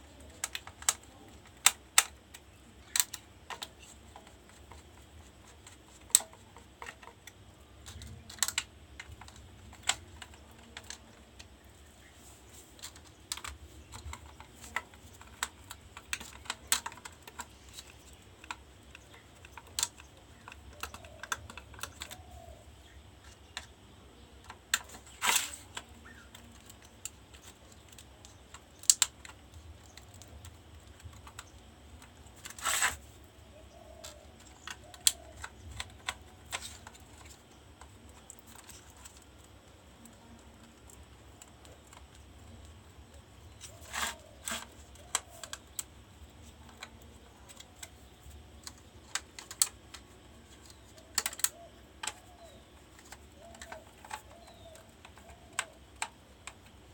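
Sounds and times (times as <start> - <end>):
faint low hum: 0.0 - 56.9
small tools clicking and tapping: 0.0 - 56.9.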